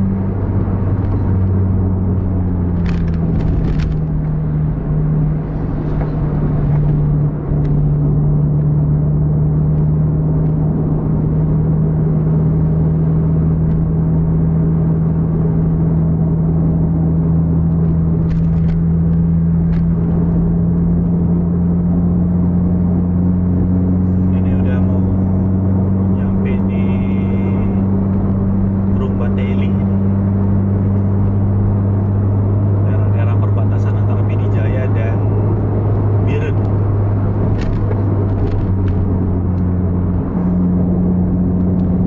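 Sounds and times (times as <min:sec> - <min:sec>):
car engine and tyres droning: 0:00.0 - 0:42.0.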